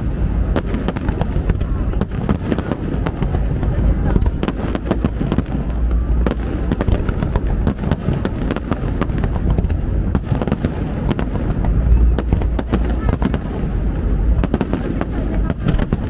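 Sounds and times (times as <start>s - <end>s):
fireworks bangs and crackling: 0.0s - 16.0s
low rumble of booming shells: 0.0s - 16.0s.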